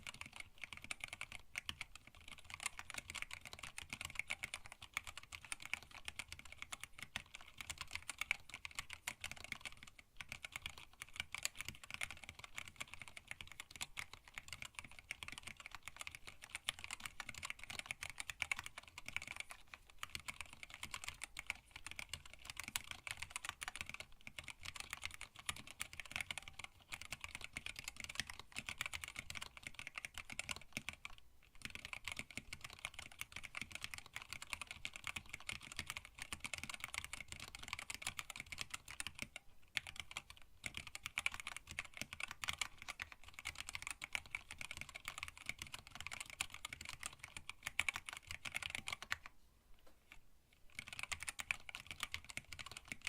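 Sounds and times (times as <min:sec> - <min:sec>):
mechanical keyboard typing: 0:00.0 - 0:49.3, 0:50.1 - 0:53.0.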